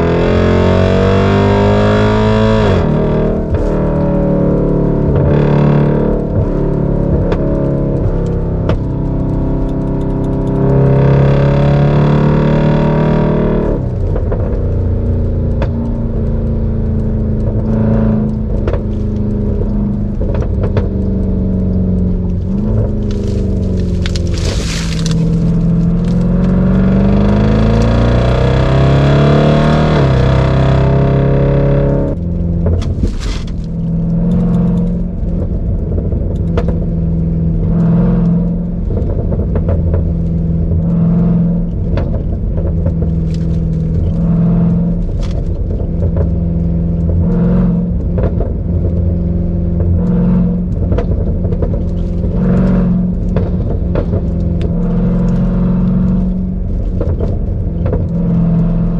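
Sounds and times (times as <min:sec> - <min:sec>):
car engine accelerating from inside: 0:00.0 - 0:58.9.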